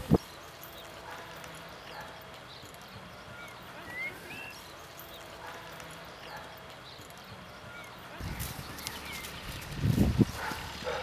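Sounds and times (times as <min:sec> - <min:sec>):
horse hoofbeats on grass: 0:00.0 - 0:11.0.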